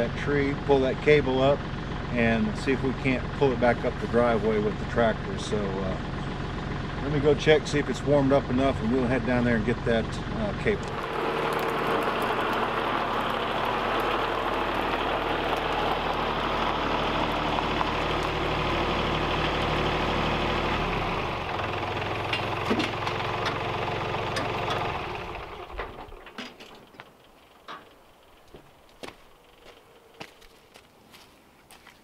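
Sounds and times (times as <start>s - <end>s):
tractor diesel engine running: 0.0s - 31.3s.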